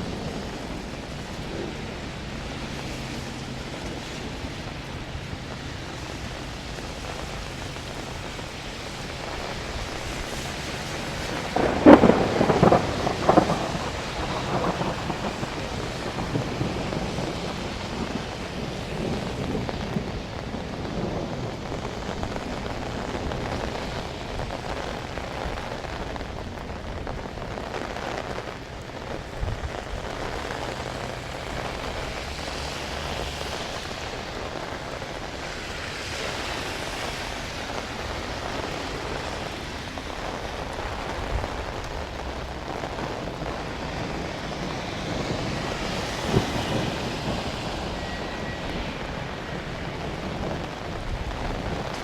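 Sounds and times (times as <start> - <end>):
crackling thunderclap: 0.0 - 52.0
steady rain falling: 0.0 - 52.0.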